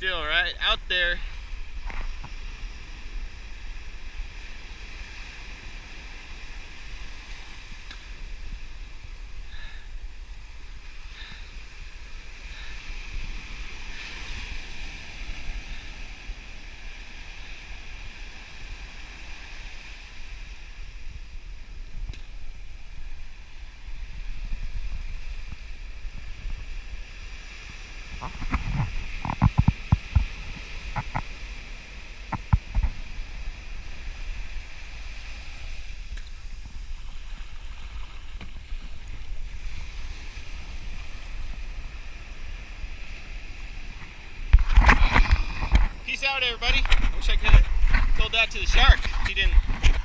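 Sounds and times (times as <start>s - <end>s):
surf washing: 0.0s - 50.0s
wind buffeting microphone: 0.0s - 50.0s.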